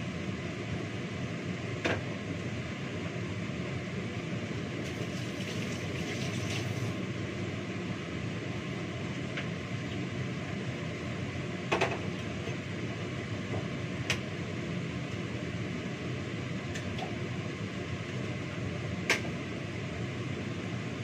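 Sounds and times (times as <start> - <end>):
fan-like hum: 0.0 - 21.0.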